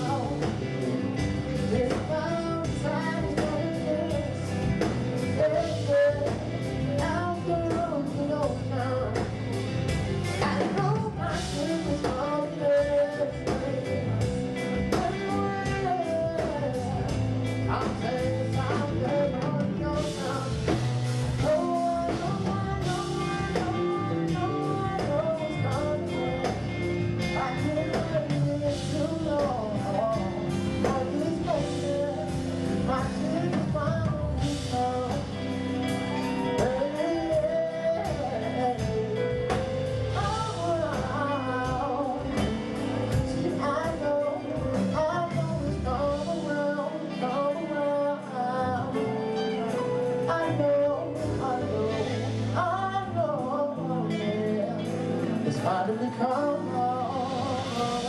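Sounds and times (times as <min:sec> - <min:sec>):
drum kit: 0:00.0 - 0:58.0
electric bass: 0:00.0 - 0:58.0
man singing: 0:00.0 - 0:58.0.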